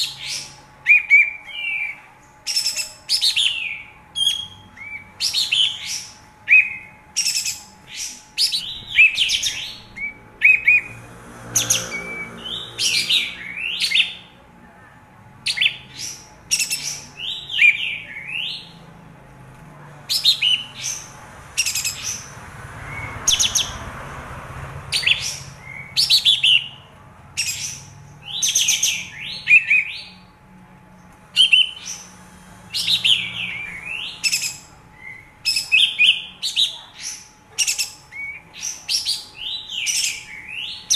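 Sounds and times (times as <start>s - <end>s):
bird singing chattering phrases: 0.0s - 14.4s, 15.4s - 18.9s, 24.9s - 30.3s, 31.3s - 40.9s.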